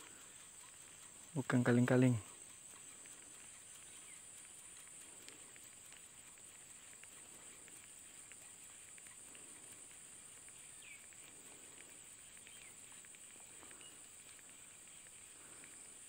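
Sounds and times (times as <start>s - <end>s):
soft ticks: 0.0s - 16.0s.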